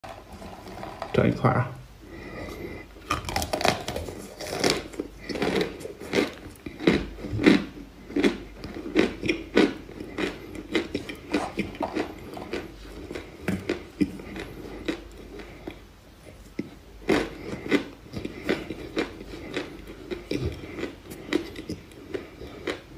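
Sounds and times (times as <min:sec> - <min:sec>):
crunching chewing of dry clay: 0:00.0 - 0:01.4, 0:02.0 - 0:22.9.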